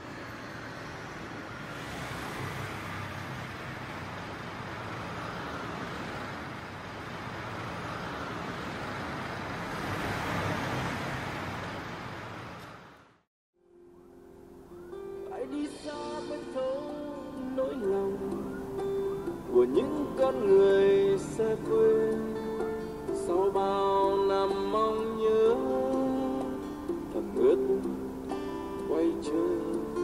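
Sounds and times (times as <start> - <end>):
road traffic engine hum: 0.0 - 30.0.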